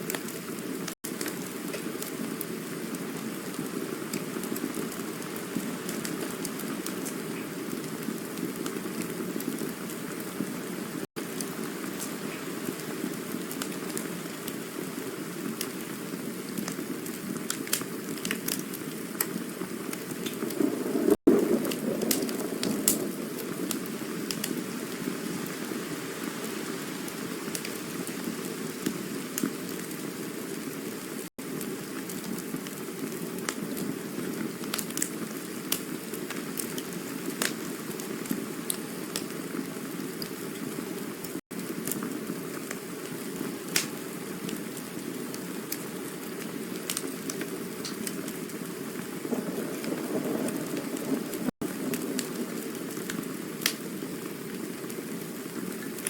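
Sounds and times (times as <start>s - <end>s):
campfire flame rush: 0.0s - 56.0s
fire crackles and pops: 0.0s - 56.0s.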